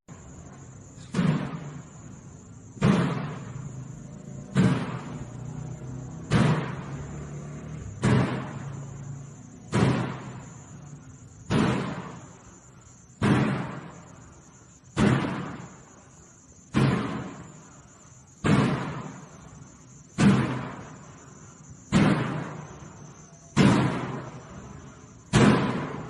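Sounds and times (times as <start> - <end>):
heavy ringing bangs: 0.1 - 26.0
steady high hiss: 0.1 - 26.0.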